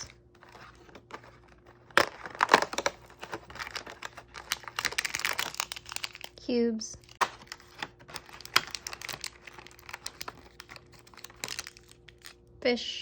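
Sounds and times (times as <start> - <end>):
plastic wrapper crinkling and tearing: 0.0 - 6.4, 7.0 - 12.5.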